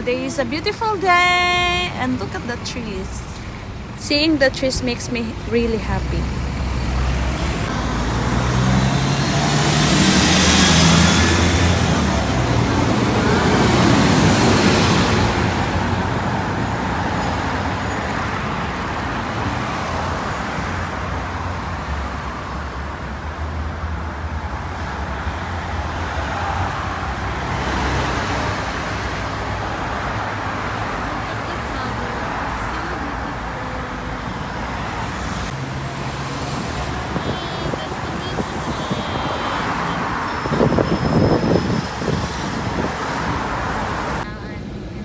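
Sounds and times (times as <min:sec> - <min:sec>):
road traffic noise: 0:00.0 - 0:45.0
vehicles passing close by: 0:00.0 - 0:45.0.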